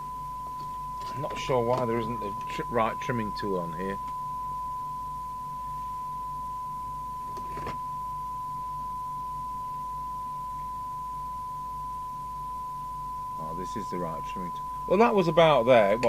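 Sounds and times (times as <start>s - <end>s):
steady test tone: 0.0s - 16.0s.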